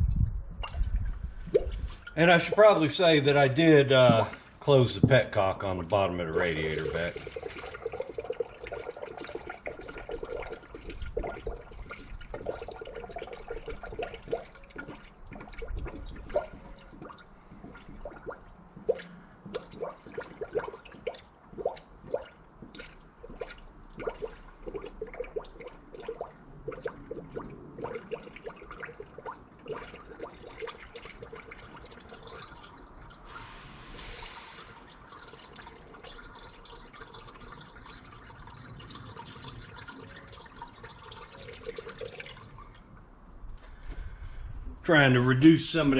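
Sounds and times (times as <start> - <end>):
jug glugging: 0.0 - 43.1
liquid pouring into a funnel: 0.1 - 4.8, 5.7 - 43.0.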